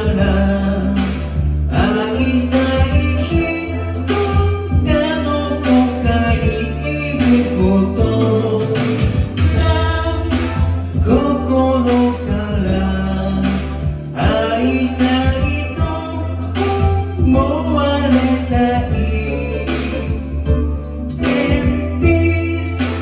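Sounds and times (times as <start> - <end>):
pop song with vocals: 0.0 - 23.0.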